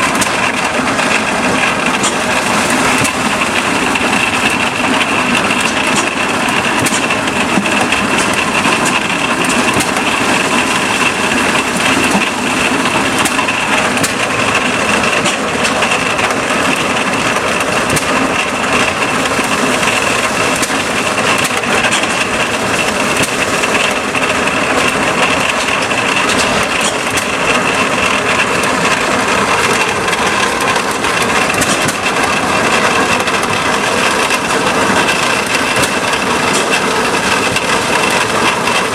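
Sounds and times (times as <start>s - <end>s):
farm machinery clattering: 0.0s - 38.9s
machinery high whine: 0.0s - 38.9s.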